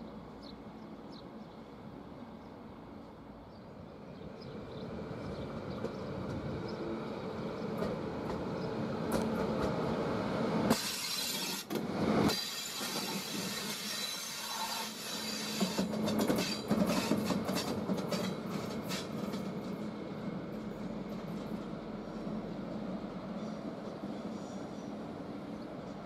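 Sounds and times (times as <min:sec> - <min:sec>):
electric locomotive rumbling past: 0:00.0 - 0:26.0.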